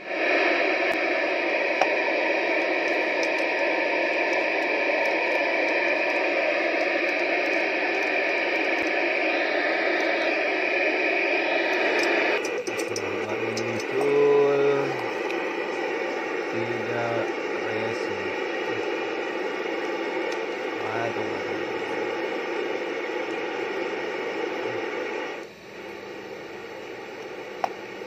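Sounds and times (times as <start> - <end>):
radio receiver hiss: 0.0 - 28.0.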